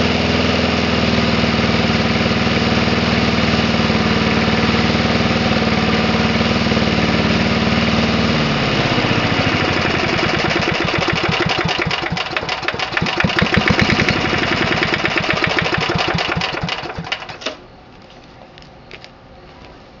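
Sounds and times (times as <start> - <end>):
lawn mower engine running: 0.0 - 17.6.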